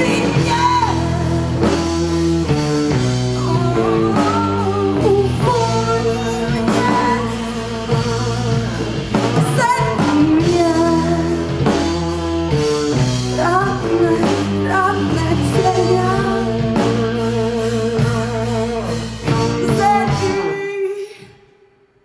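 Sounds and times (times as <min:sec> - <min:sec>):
woman singing: 0:00.0 - 0:01.9, 0:02.8 - 0:12.0, 0:12.7 - 0:21.6
live band playing: 0:00.0 - 0:21.3
guitar: 0:00.0 - 0:22.0.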